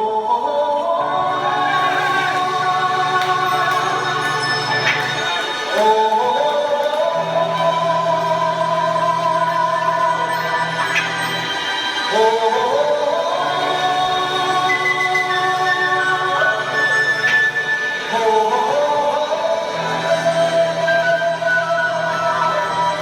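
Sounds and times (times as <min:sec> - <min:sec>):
choir-like singing over drone: 0:00.0 - 0:23.0.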